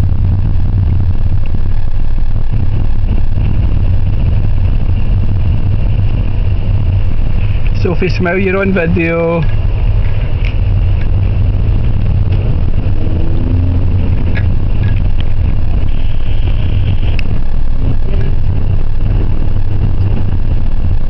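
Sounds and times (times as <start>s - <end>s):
road noise: 0.0s - 21.0s
wind rushing past car window: 0.0s - 21.0s.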